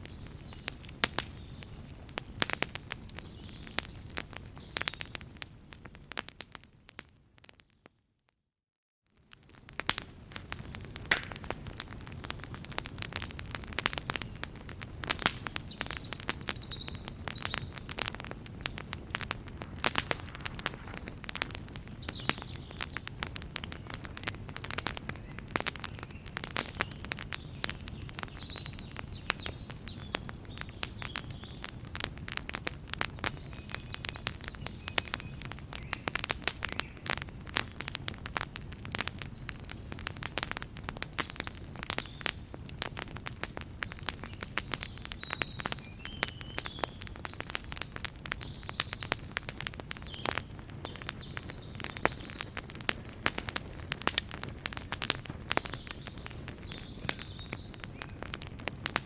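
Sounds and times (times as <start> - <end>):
low rumble of fire: 0.0 - 7.5, 9.1 - 59.0
campfire crackling and popping: 0.0 - 7.9, 9.1 - 59.0.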